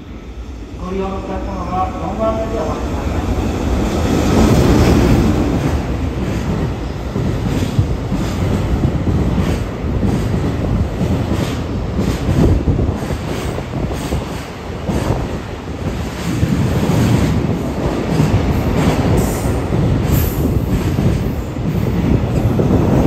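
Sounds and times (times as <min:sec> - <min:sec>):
electric locomotive passing: 0:00.0 - 0:23.0.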